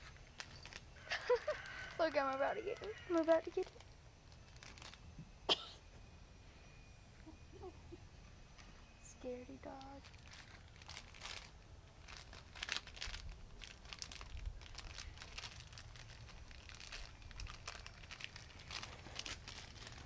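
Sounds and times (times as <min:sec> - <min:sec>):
rustling and crinkling: 0:00.0 - 0:05.5, 0:08.4 - 0:20.0.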